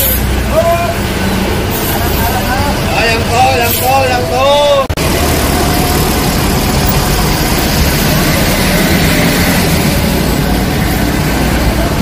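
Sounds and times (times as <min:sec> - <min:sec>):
bus diesel engine rumbling: 0:00.0 - 0:12.0
street traffic: 0:00.0 - 0:12.0.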